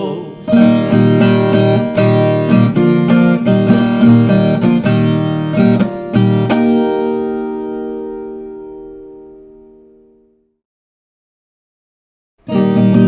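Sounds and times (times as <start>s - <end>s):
acoustic guitar strumming: 0.0s - 10.3s, 12.4s - 13.0s.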